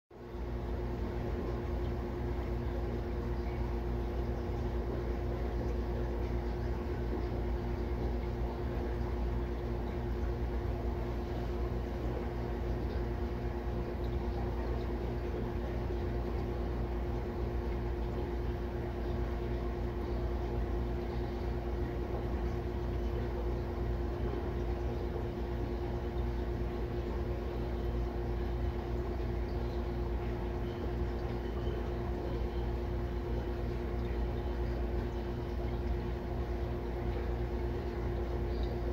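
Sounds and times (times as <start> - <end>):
aquarium filter motor humming: 0.1 - 38.9.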